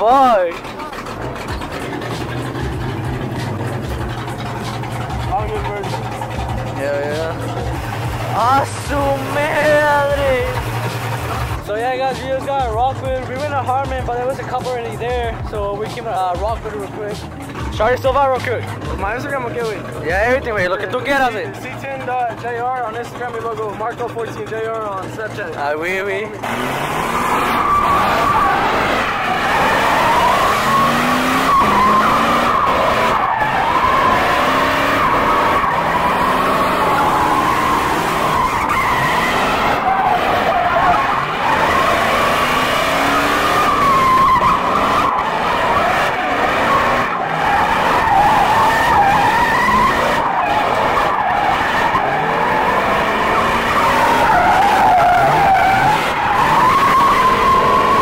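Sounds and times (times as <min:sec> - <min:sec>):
tires squealing: 0:00.0 - 0:58.0
truck engine revving: 0:00.0 - 0:58.0.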